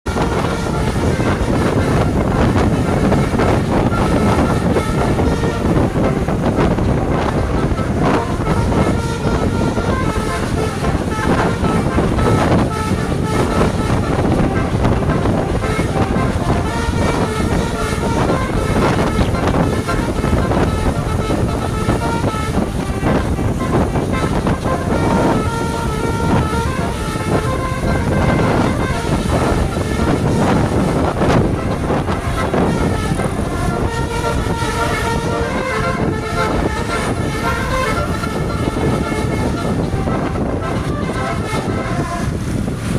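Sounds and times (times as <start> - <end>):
engine and road noise: 0.0 - 42.8
musical bus horn tune: 0.0 - 42.9
wind noise on microphone: 0.0 - 42.9
heavy low rumble: 0.1 - 42.7.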